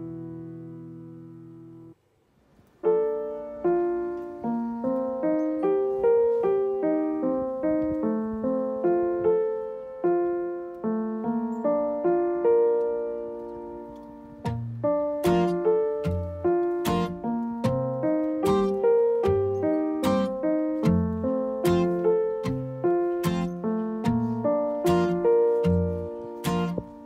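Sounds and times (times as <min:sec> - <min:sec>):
solo piano music: 0:00.0 - 0:02.1, 0:02.7 - 0:27.0.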